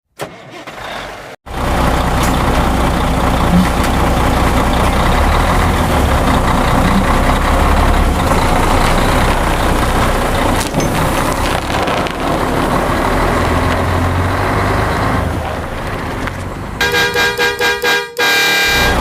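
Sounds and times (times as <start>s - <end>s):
truck engine running: 1.5s - 19.0s.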